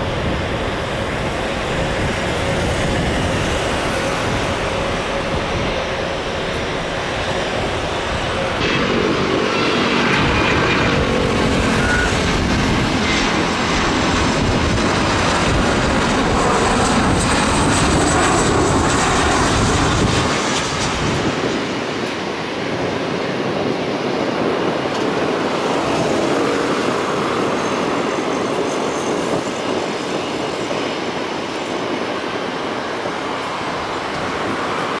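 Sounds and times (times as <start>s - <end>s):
jet engines whining on landing: 0.0s - 35.0s.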